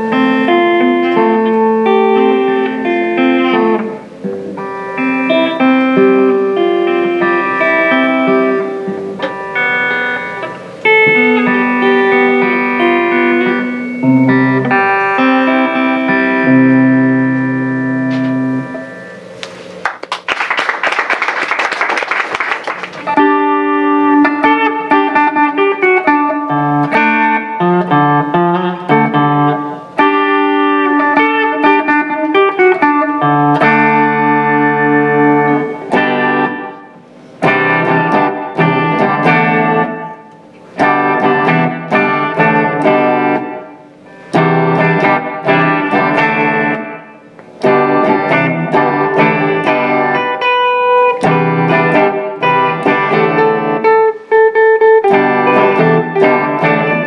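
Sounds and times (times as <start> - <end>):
clean electric guitar melody: 0.0 - 19.9, 22.8 - 57.0
electric guitar rock riff: 0.0 - 19.9, 22.0 - 57.0.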